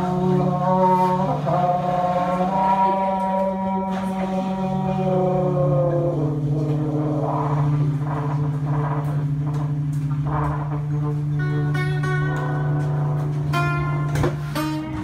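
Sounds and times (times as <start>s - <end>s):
plucked and scraped guitar: 0.0s - 15.0s
trumpet held note: 0.0s - 15.0s.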